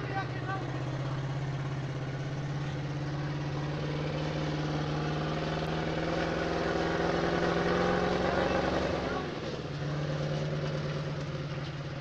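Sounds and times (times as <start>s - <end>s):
truck engine running under load: 0.0s - 12.0s.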